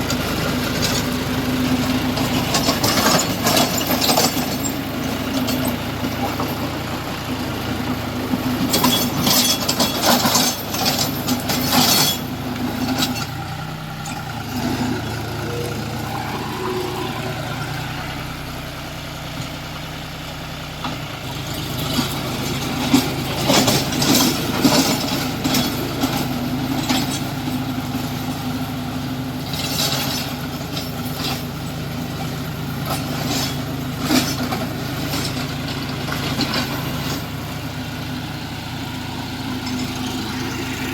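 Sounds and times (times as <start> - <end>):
rotavator rattling clatter: 0.0 - 18.6, 20.9 - 40.9
tractor diesel engine running: 0.0 - 40.9.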